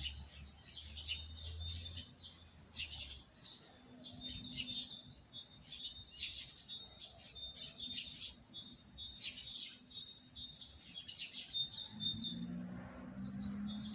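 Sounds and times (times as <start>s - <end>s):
songbirds singing: 0.0s - 13.9s.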